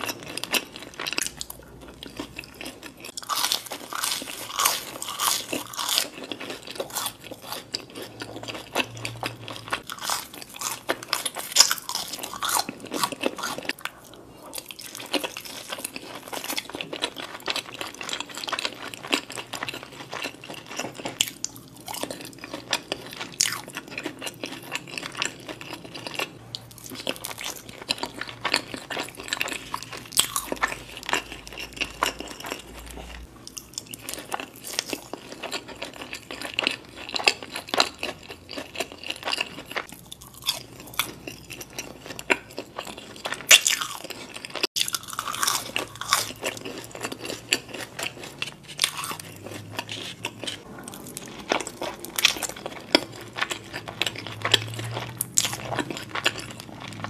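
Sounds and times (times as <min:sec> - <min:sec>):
chewing and crunching fried food: 0:00.0 - 0:57.0.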